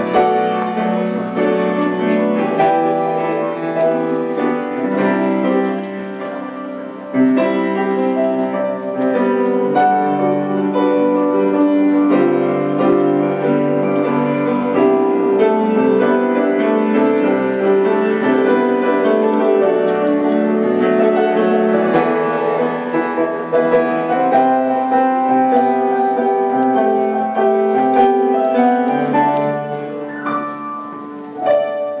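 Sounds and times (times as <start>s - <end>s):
keyboard playing classical piece: 0.0s - 32.0s.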